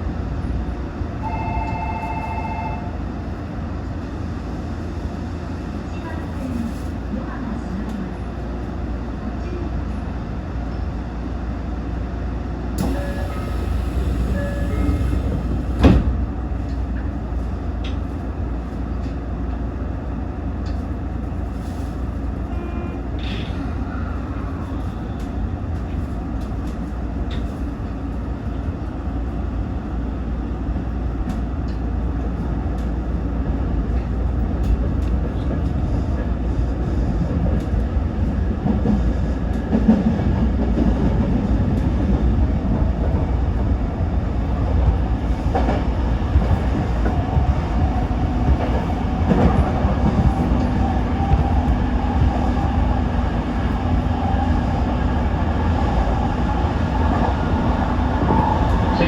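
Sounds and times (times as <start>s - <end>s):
train wheels and motors rumbling: 0.0s - 59.0s.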